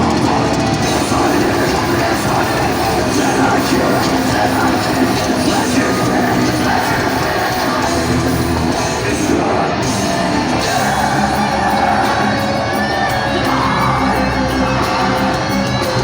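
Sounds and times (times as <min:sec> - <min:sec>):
bass: 0:00.0 - 0:16.0
distorted guitars: 0:00.0 - 0:16.0
drums: 0:00.0 - 0:16.0
shouted vocals: 0:00.0 - 0:16.0.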